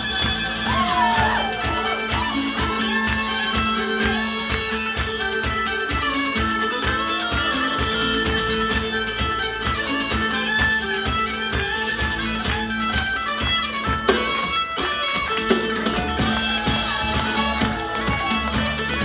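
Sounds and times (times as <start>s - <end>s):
bagpipes melody with drone: 0.0s - 19.0s
drums keeping a beat: 0.0s - 19.0s.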